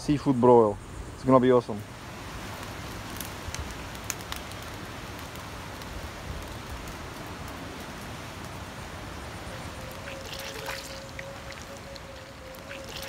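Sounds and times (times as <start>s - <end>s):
campfire hissing: 0.0s - 13.0s
fire crackles and pops: 1.7s - 13.0s.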